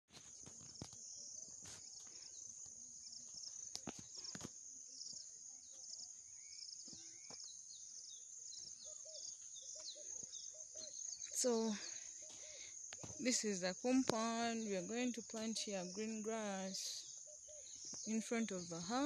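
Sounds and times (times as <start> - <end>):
insect chorus chirping: 0.2 - 19.0
bird calls: 3.4 - 19.0.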